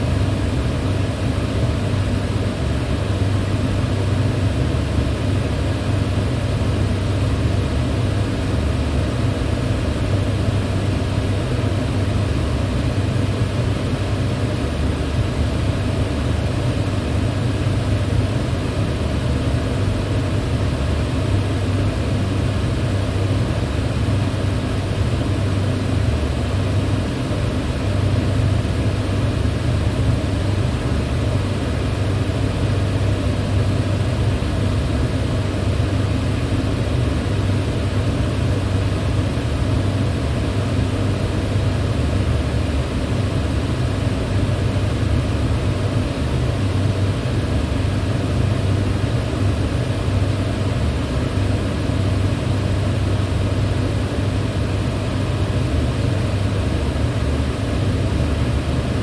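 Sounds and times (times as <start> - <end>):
electric fan whooshing hum: 0.0 - 59.0.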